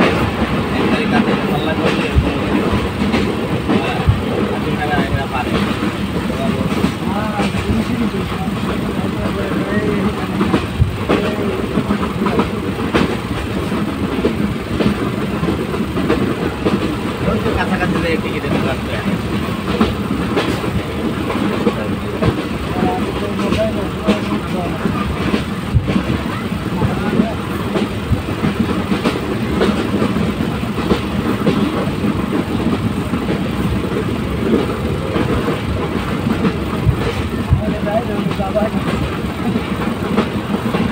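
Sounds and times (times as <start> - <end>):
train rumbling: 0.0 - 40.9
wheels clacking over rails: 0.0 - 40.9.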